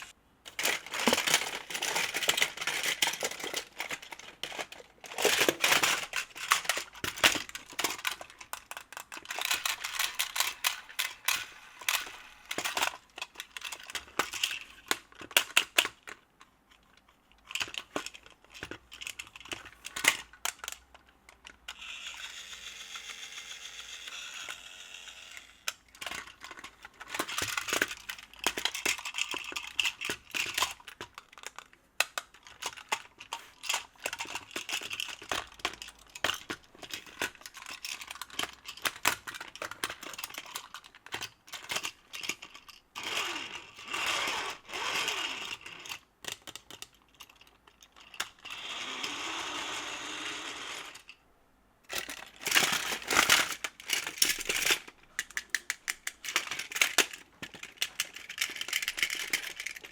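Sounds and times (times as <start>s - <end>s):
toy train wheels clicking on track: 0.0s - 16.1s, 17.4s - 47.3s, 48.0s - 51.1s, 51.9s - 59.9s.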